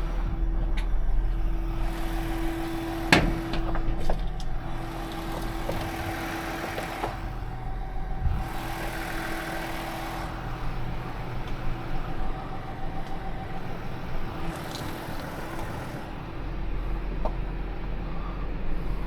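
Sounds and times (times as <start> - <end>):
motor vehicle engine running: 0.0 - 19.0.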